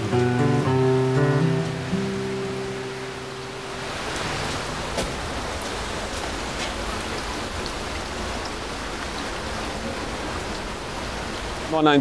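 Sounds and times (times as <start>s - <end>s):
steady rain falling: 0.0s - 12.0s
sharp water drips: 1.4s - 12.0s.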